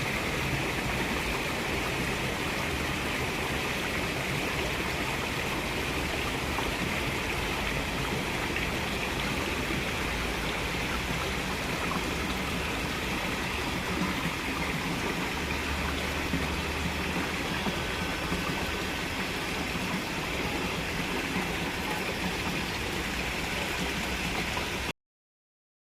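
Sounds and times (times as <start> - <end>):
water fountain splashing: 0.0 - 24.9.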